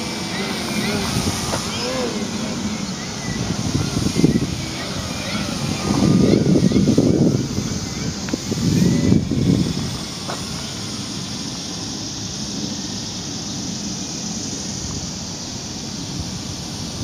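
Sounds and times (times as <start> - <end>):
model plane motor whirring: 0.0 - 17.0.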